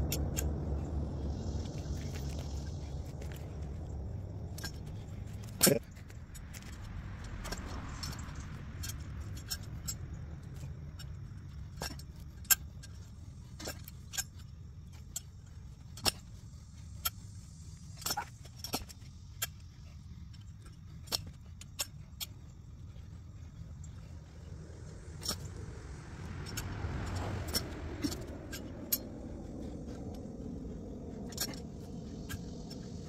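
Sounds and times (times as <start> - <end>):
low rumble: 0.0 - 33.0.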